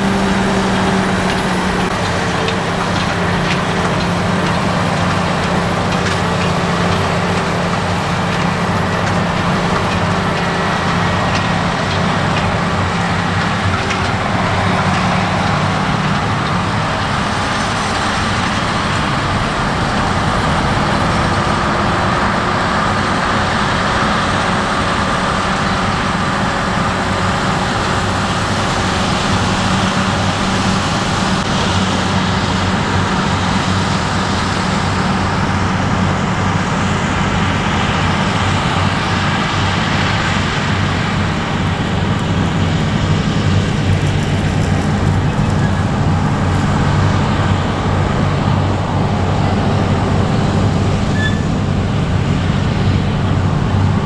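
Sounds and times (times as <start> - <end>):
harvester diesel engine drone: 0.0 - 54.0.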